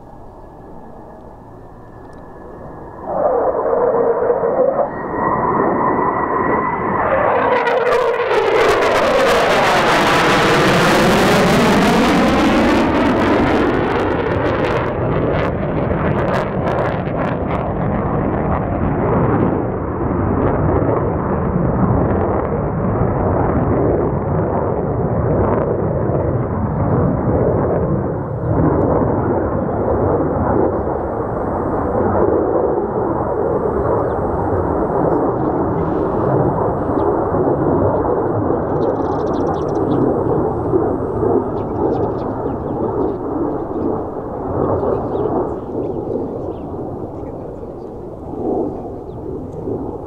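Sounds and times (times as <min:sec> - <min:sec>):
jet engine roar: 0:00.0 - 0:50.0.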